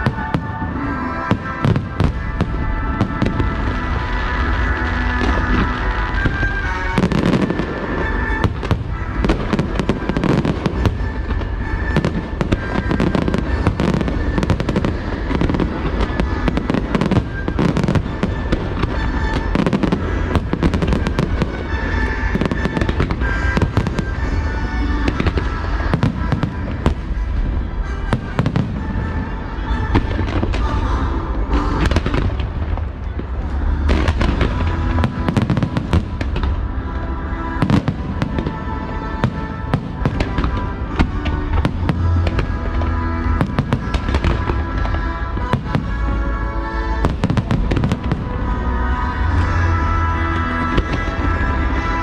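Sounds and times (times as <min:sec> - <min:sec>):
fireworks bangs and crackles: 0:00.0 - 0:52.0
music playing: 0:00.0 - 0:52.0.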